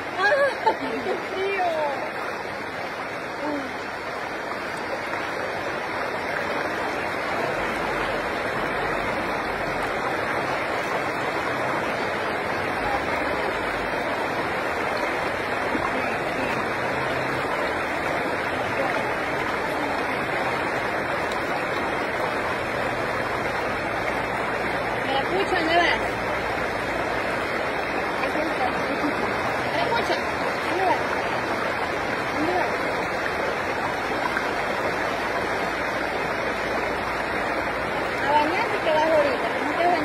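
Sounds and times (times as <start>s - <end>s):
river rushing over rocks: 0.0s - 40.0s.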